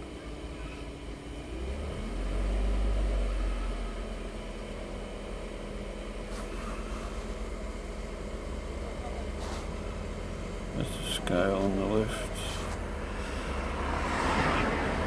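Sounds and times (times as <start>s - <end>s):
car engine idling: 0.0s - 2.2s, 2.8s - 15.0s.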